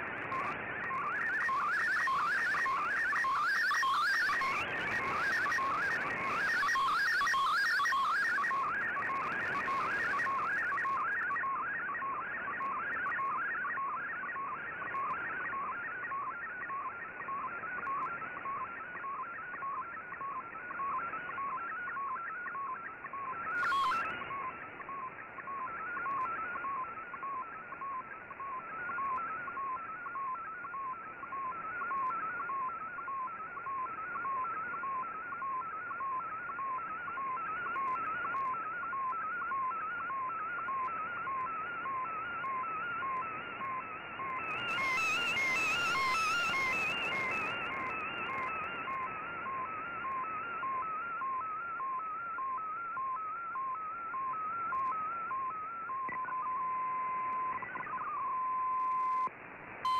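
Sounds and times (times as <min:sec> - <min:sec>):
radio hiss: 0:00.0 - 0:59.9
static crackle: 0:00.0 - 0:59.9.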